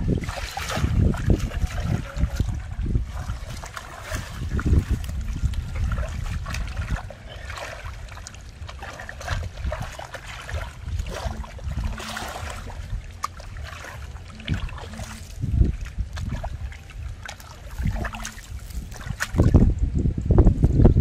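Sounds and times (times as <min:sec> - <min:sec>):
hands squelching in muddy water: 0:00.0 - 0:19.8.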